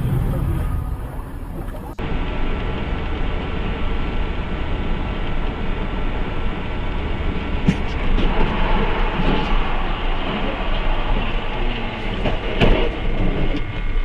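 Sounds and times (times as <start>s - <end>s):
road noise: 0.0s - 14.0s
vehicle engine rumble: 0.0s - 14.0s.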